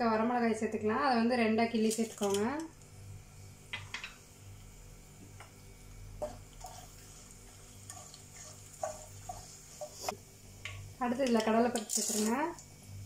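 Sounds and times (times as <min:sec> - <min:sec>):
oil sizzling in a pan: 0:01.8 - 0:13.0.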